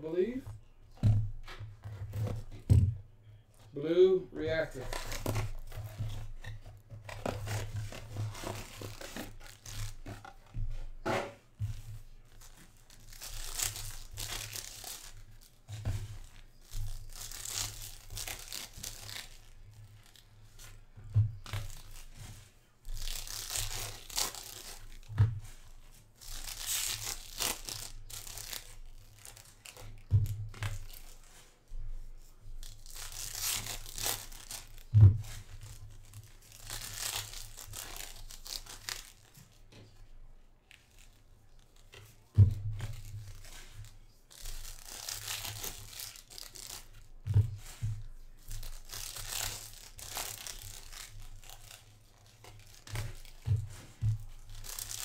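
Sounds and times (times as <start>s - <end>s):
plastic wrappers tearing and crinkling: 3.6s - 10.6s, 12.0s - 31.5s, 32.5s - 39.7s, 40.6s - 55.0s.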